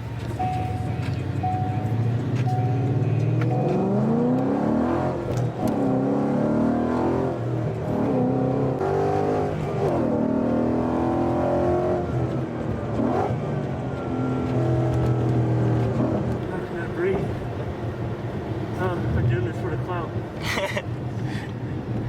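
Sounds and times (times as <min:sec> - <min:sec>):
car engine revving: 0:00.0 - 0:19.8.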